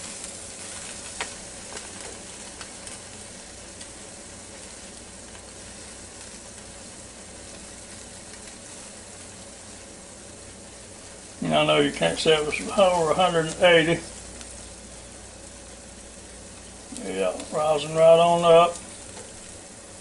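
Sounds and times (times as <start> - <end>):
chicken sizzling in pot: 0.0 - 20.0.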